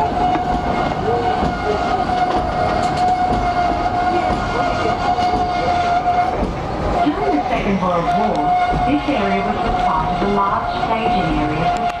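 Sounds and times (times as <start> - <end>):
carriages rumbling on track: 0.0 - 12.0
train wheels squealing on rail: 0.0 - 12.0.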